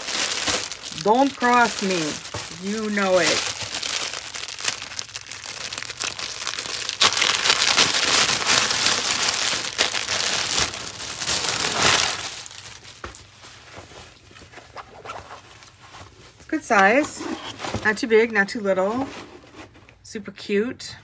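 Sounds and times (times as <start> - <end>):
plastic packaging crinkling: 0.0 - 18.1.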